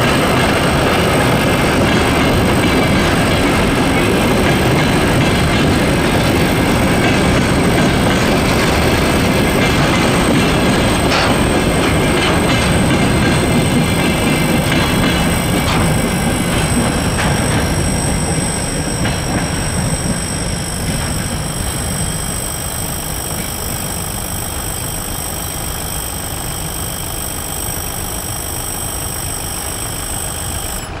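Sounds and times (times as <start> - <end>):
freight train wheels rolling: 0.0 - 31.0
thin high whine: 0.0 - 31.0.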